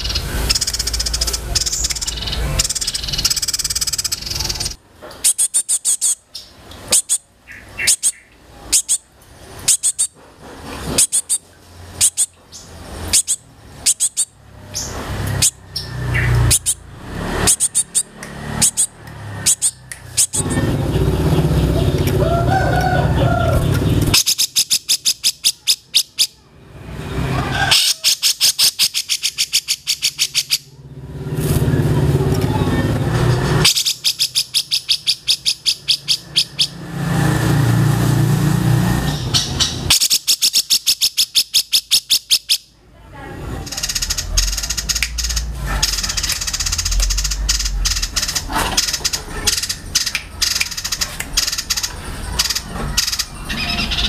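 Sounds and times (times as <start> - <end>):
fast rattling bird trills: 0.0 - 10.2, 10.9 - 26.4, 27.7 - 30.8, 33.5 - 37.5, 38.9 - 42.7, 43.6 - 54.0
sharp high bird chips: 0.0 - 10.2, 10.9 - 22.0, 24.1 - 26.4, 27.7 - 30.7, 33.6 - 36.8, 39.1 - 42.7, 43.6 - 54.0.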